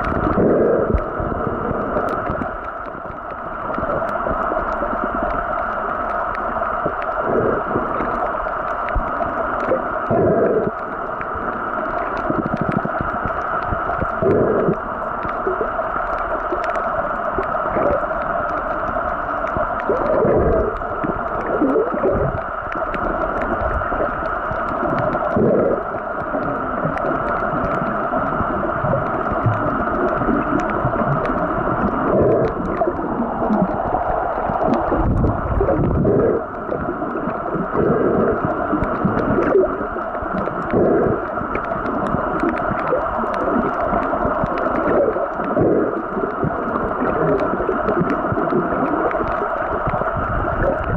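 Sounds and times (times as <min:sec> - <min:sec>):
faint crackling: 0:00.0 - 0:50.9
underwater hiss: 0:00.0 - 0:50.9
water whooshing: 0:00.0 - 0:50.9.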